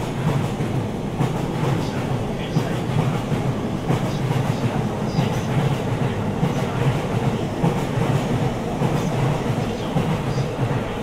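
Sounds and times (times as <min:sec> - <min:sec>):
train running rumble: 0:00.0 - 0:11.0
train wheels clickety-clack: 0:00.0 - 0:11.0.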